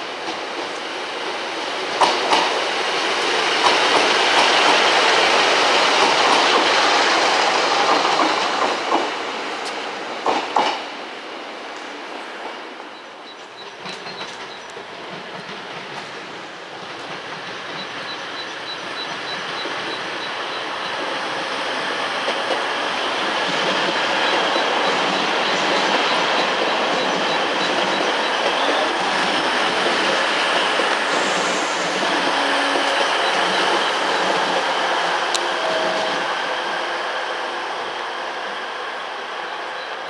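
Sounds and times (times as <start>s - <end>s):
train passing: 0.0s - 40.0s.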